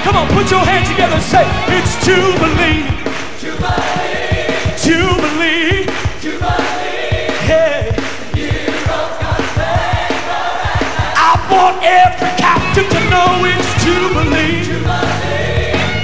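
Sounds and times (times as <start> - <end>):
band playing: 0.0 - 16.0
gospel choir singing: 0.0 - 16.0
lead vocalist singing: 0.0 - 16.0
steady drum beat: 0.0 - 16.0.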